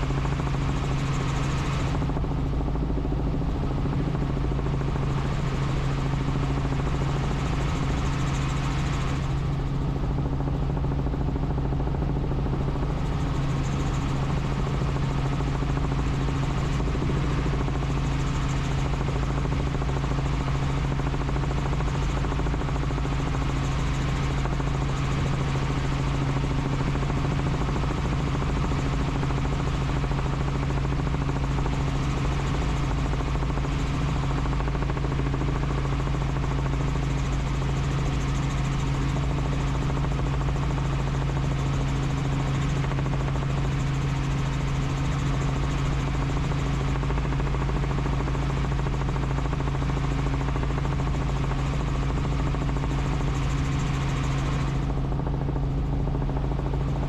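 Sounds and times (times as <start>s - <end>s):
helicopter rotor and engine: 0.0s - 57.0s.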